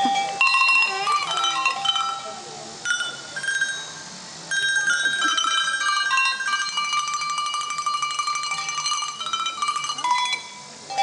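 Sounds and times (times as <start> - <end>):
small tuned bells ringing: 0.0 - 11.0.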